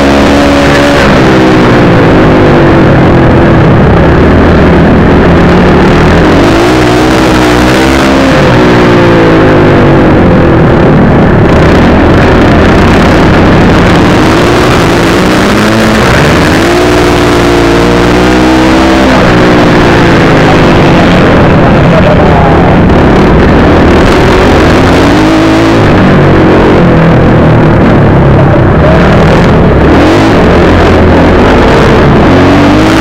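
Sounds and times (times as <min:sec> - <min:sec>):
loud rushing noise: 0:00.0 - 0:33.0
motocross bike engine revving: 0:00.0 - 0:33.0.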